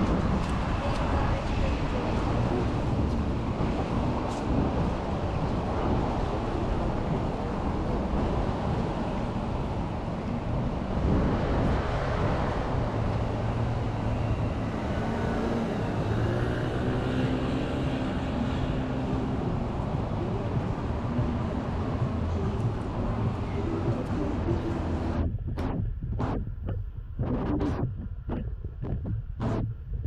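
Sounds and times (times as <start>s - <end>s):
engine hum: 0.0s - 30.0s
traffic rumble: 0.0s - 30.0s.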